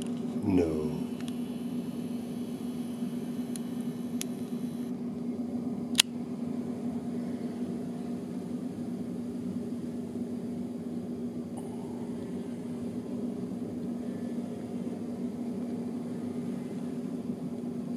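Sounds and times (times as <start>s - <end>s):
ventilation hum: 0.0s - 17.9s.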